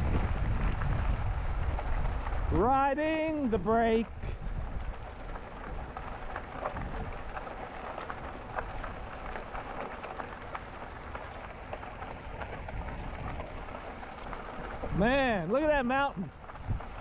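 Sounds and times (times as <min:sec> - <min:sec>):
bicycle tyres crunching on gravel: 0:00.0 - 0:17.0
wind rumble on microphone: 0:00.0 - 0:17.0.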